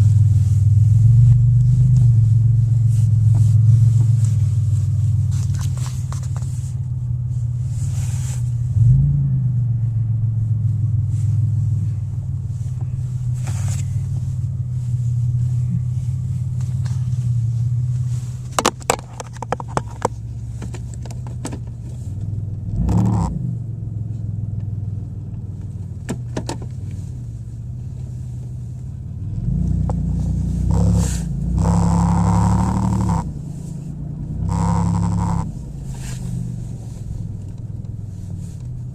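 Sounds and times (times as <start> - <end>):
car engine droning and revving: 0.0 - 38.9.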